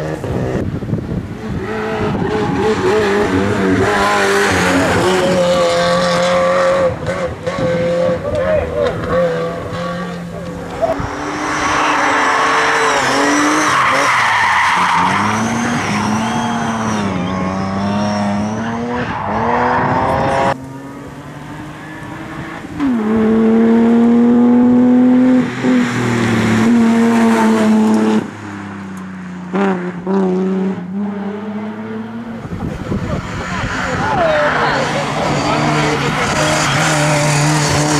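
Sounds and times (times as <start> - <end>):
race car engine revving: 0.0 - 37.9.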